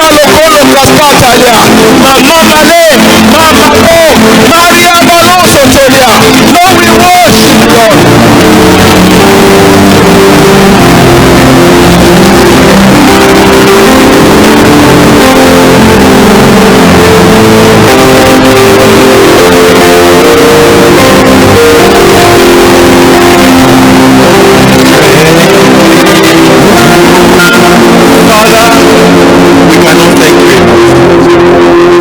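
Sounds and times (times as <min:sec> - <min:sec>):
church band with held chords: 0:00.0 - 0:32.0
guitar: 0:00.0 - 0:32.0.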